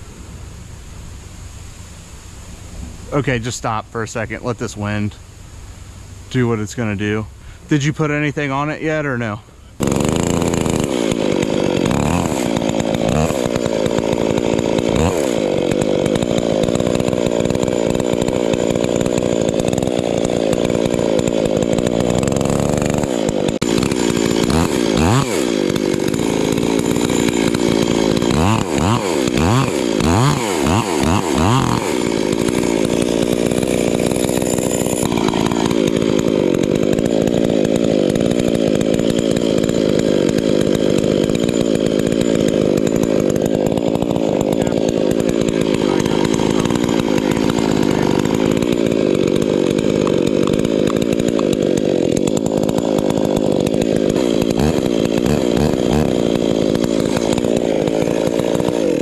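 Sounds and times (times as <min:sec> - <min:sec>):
chainsaw cutting into tree: 0:02.7 - 0:59.0.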